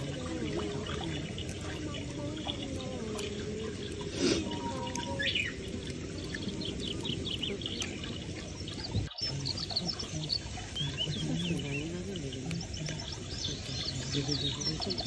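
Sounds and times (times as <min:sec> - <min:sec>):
low steady background noise: 0:00.0 - 0:15.0
small birds chirping and twittering: 0:00.0 - 0:15.0.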